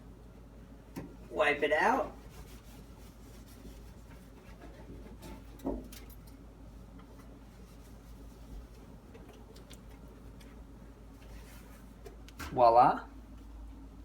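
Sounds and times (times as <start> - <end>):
washcloth wiping microwave: 0.9 - 5.9, 6.6 - 14.0.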